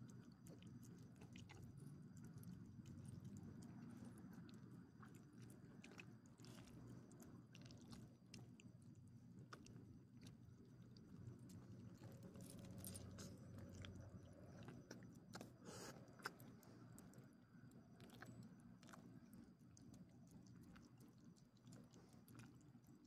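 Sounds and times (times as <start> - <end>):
dogs chewing and licking: 0.0 - 23.0.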